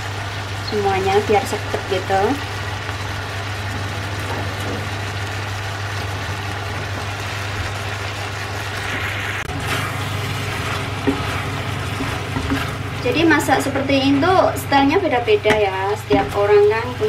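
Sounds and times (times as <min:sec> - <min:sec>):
electric stove humming: 0:00.0 - 0:17.0
sauce simmering in a pan: 0:00.0 - 0:17.0
stirring hiss: 0:00.0 - 0:17.0.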